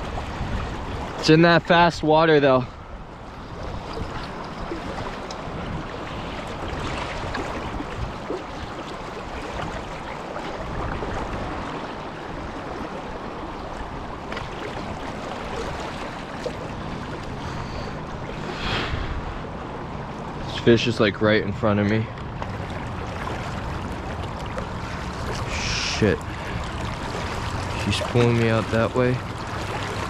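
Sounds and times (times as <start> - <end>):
river water rushing: 2.8 - 20.8, 22.1 - 30.0.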